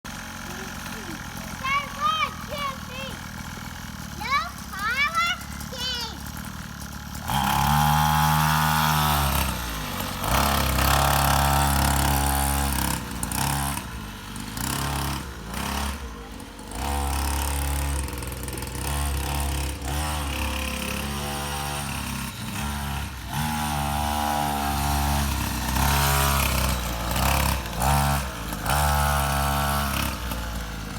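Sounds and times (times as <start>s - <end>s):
pit bike engine revving: 0.1s - 30.9s.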